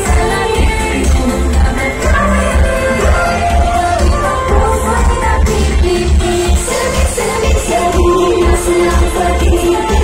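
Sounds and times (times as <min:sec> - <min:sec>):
pop song over sound system: 0:00.0 - 0:10.0.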